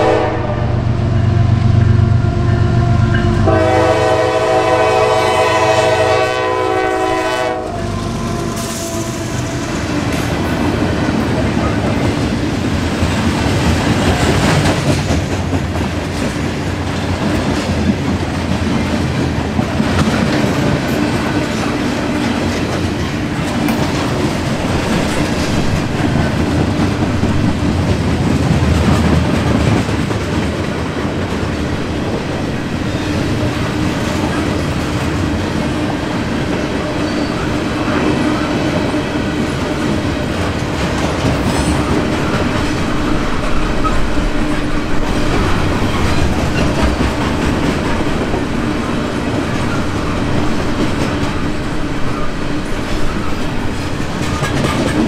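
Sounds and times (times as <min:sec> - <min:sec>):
train wheels rumbling on rail: 0:00.0 - 0:55.0
wheels clacking over rail joints: 0:07.8 - 0:55.0.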